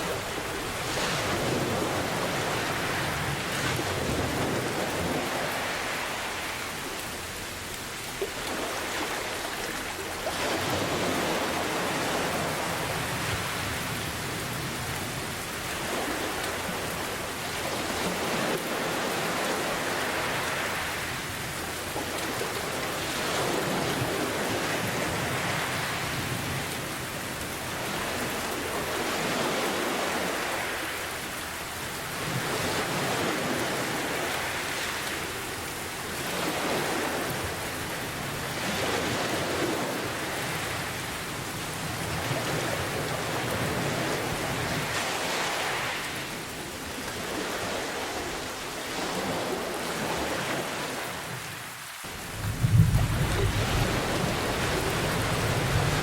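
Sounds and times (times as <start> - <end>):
heavy rain: 0.0 - 56.0
ocean waves surging: 0.0 - 56.0.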